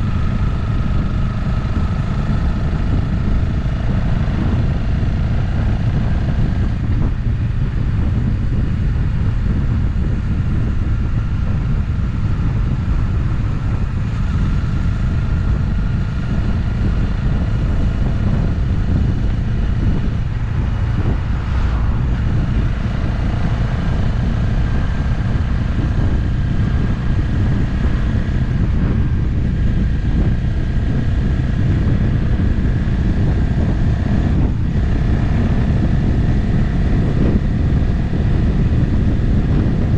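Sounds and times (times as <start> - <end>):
motorcycle engine cruising: 0.0 - 39.9
wind rushing on microphone: 0.0 - 39.9.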